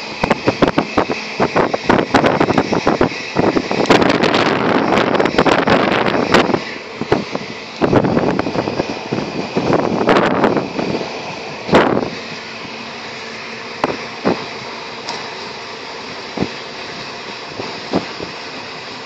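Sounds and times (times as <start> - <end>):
passenger train running noise: 0.0 - 19.0.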